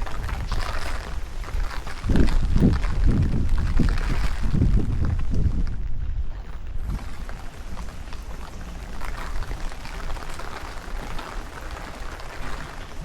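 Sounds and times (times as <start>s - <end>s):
low wind rumble: 0.0s - 13.0s
rain pattering on surfaces: 0.0s - 13.0s.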